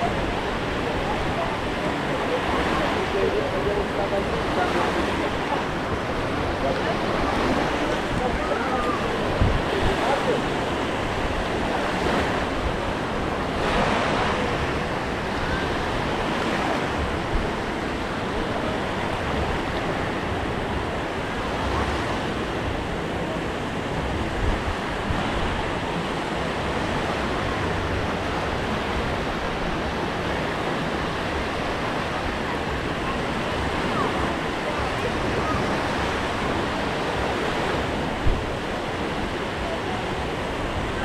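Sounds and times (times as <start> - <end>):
small waves washing onto sand: 0.0 - 41.0
wind rumble on microphone: 0.0 - 41.0.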